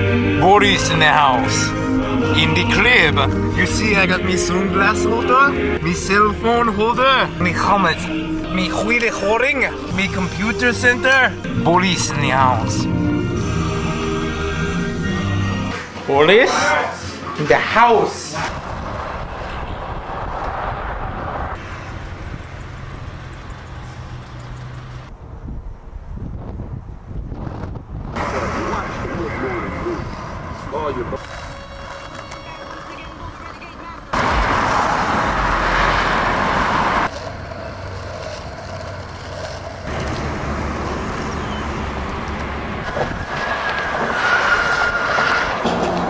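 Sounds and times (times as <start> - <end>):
passing highway traffic: 0.0 - 46.0.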